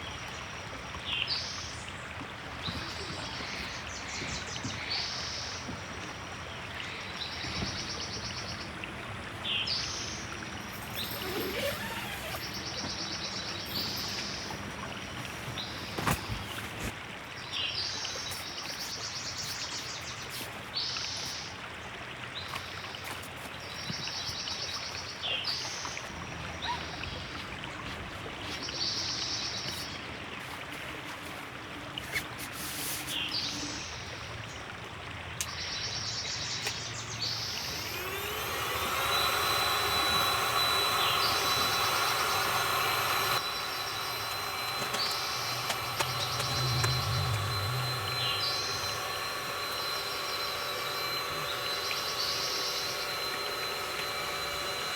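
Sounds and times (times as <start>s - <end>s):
river water running: 0.0s - 54.9s.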